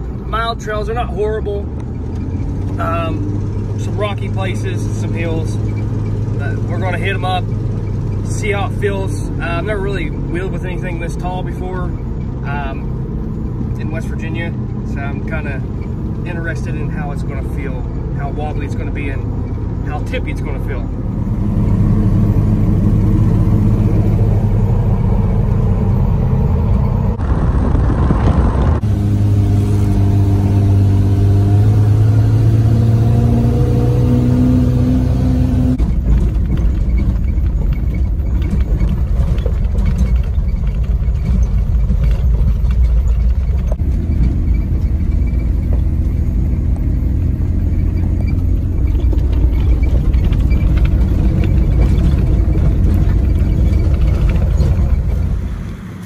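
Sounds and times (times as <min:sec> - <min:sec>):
car engine accelerating: 0:00.0 - 0:56.0
tires rumbling on gravel: 0:00.0 - 0:56.0.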